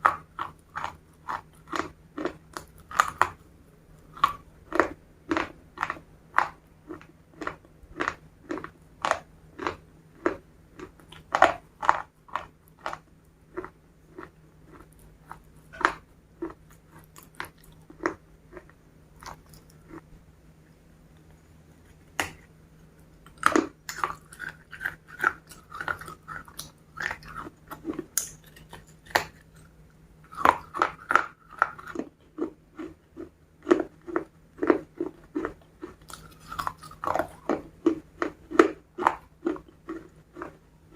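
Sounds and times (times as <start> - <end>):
crunchy chewing of fried chicken: 0.0 - 20.2, 21.1 - 40.9.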